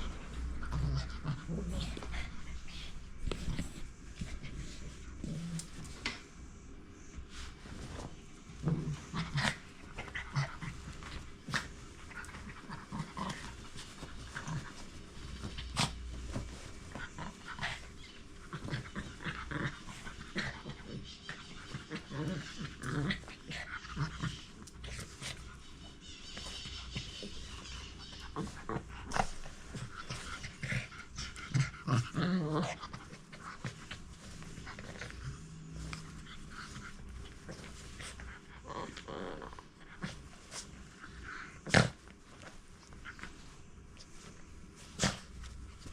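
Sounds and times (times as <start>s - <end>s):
dogs panting and growling: 0.0s - 45.9s.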